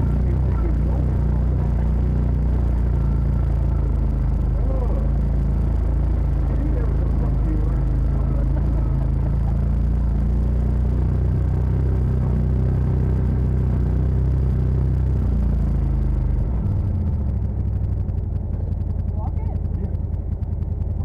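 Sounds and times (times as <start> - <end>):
utility vehicle engine rumbling: 0.0 - 21.0.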